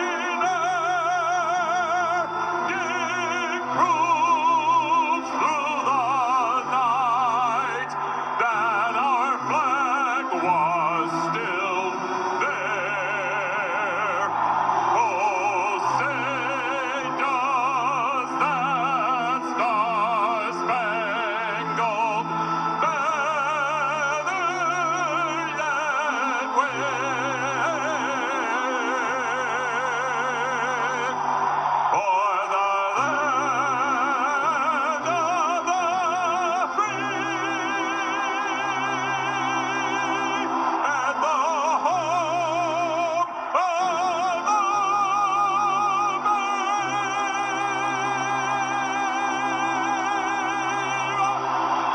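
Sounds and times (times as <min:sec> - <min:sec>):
man singing with vibrato: 0:00.0 - 0:51.9
sustained organ chords: 0:00.0 - 0:51.9.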